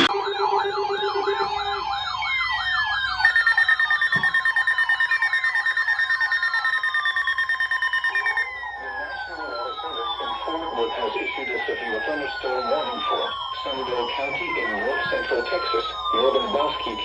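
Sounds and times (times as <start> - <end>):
pulsing alarm tone: 0.0 - 17.0
siren tones sliding down: 0.0 - 17.0
siren warbling: 0.0 - 17.0.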